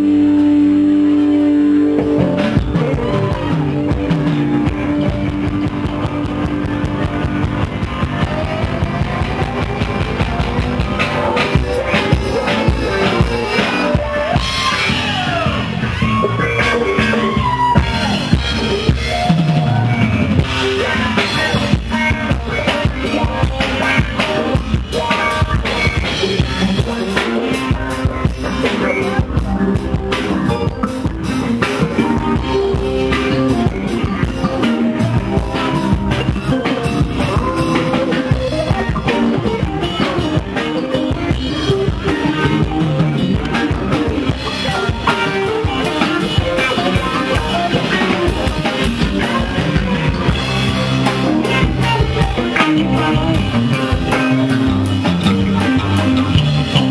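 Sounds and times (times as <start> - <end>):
drum kit beat: 0.0 - 56.9
live band playing: 0.0 - 56.9.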